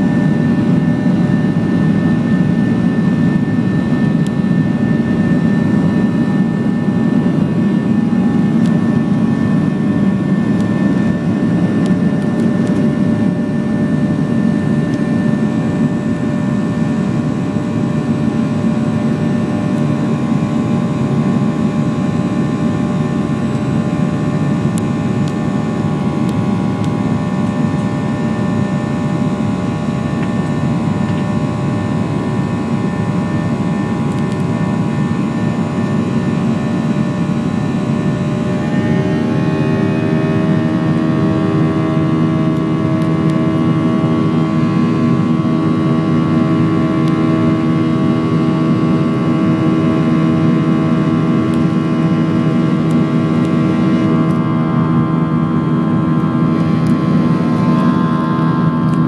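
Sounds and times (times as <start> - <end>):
jet engine roar in cabin: 0.0 - 59.0.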